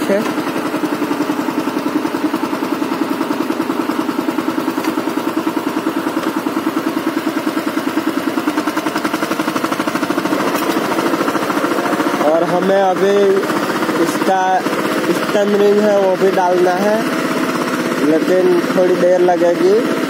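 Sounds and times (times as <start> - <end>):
diesel power tiller engine running: 0.0 - 20.0.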